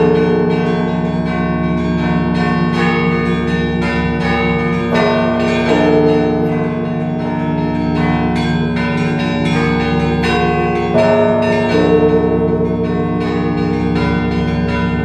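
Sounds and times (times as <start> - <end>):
church bells chiming: 0.0 - 15.0
large bell humming: 0.0 - 15.0.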